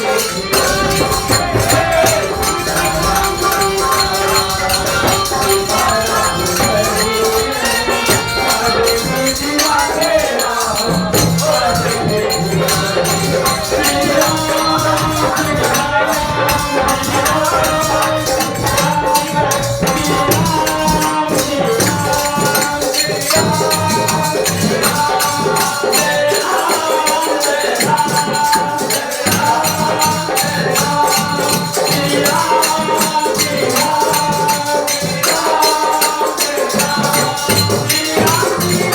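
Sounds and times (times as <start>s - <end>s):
group devotional singing: 0.0s - 38.9s
jingling hand percussion: 0.0s - 38.9s.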